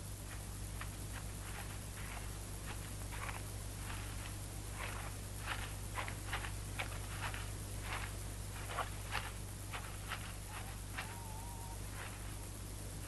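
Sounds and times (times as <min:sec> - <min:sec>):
steady low hum: 0:00.0 - 0:13.0
footsteps on leaf litter: 0:00.3 - 0:12.4.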